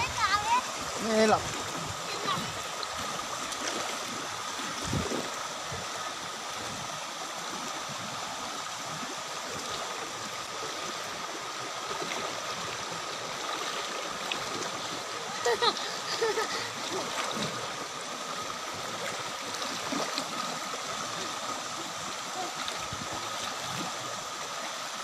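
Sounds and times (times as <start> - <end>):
stream water rushing over rocks: 0.0 - 25.0.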